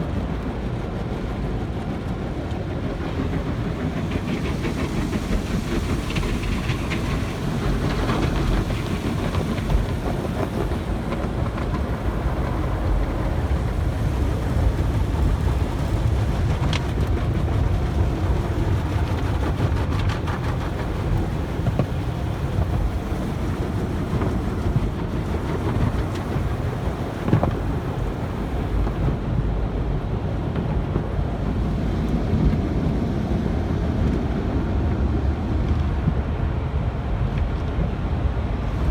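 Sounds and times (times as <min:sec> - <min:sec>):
car wash machinery rumbling: 0:00.0 - 0:38.9.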